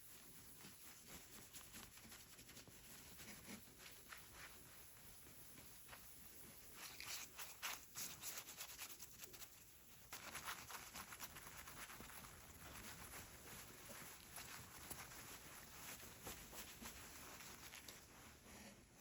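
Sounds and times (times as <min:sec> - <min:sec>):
scratchy rubbing: 0:00.4 - 0:18.7.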